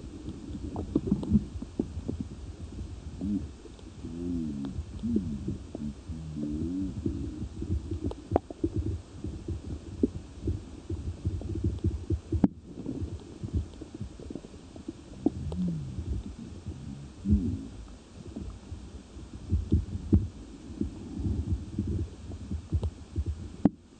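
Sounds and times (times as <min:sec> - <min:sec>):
underwater low rumble and thumping: 0:00.0 - 0:23.9.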